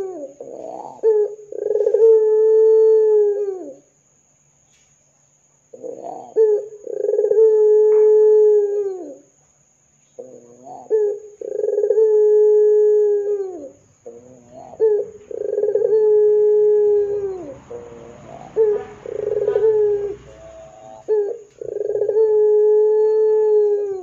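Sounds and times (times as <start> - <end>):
dove cooing: 0.0 - 3.9, 5.7 - 9.3, 10.2 - 24.0.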